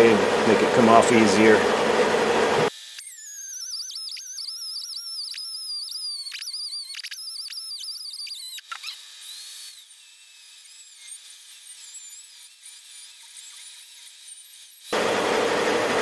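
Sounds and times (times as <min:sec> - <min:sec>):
angle grinder cutting metal: 0:00.0 - 0:16.0.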